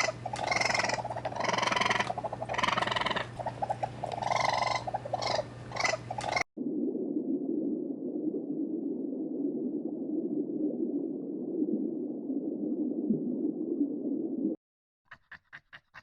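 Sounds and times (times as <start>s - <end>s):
animal low rumble: 0.0s - 14.6s.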